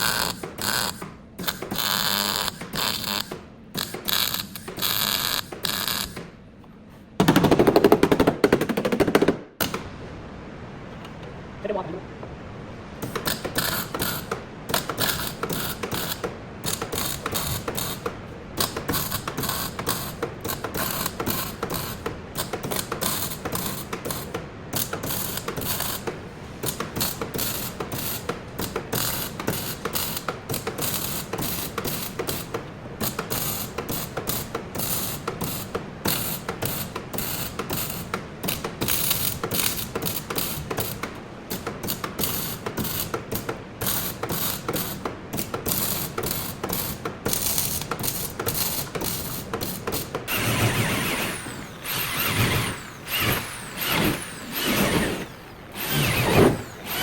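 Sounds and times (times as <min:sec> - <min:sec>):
rapid mechanical clicking: 0:00.0 - 0:06.4, 0:07.2 - 0:09.9, 0:13.0 - 0:57.0.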